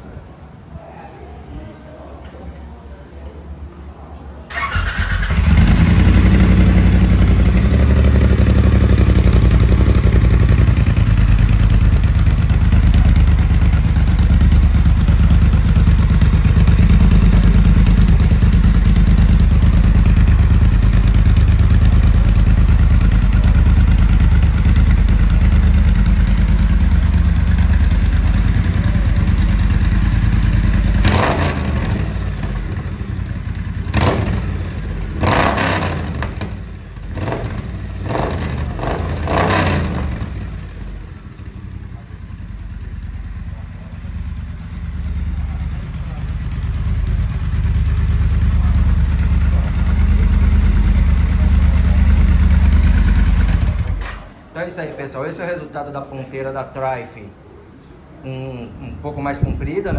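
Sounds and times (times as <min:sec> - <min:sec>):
motorcycle engine starting and idling: 0:04.5 - 0:55.2.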